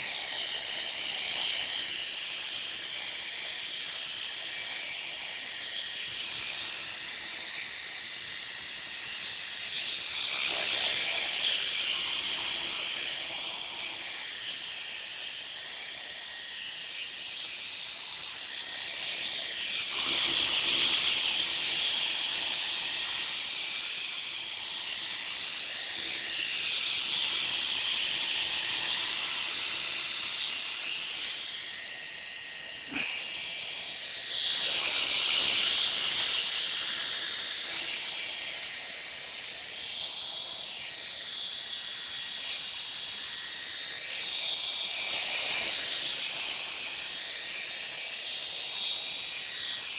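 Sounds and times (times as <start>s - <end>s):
rc helicopter rotors and motor: 0.0s - 49.9s.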